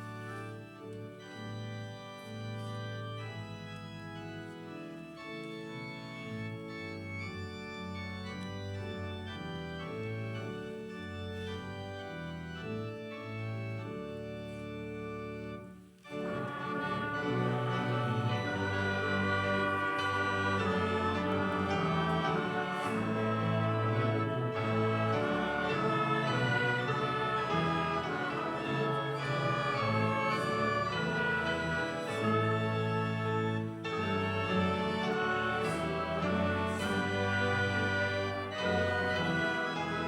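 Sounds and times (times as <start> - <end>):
organ playing hymn chords: 0.0 - 40.0.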